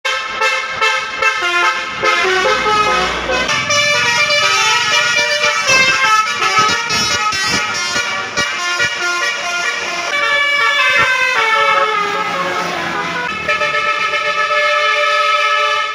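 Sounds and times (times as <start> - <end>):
bus horn playing a tune: 0.0 - 15.9.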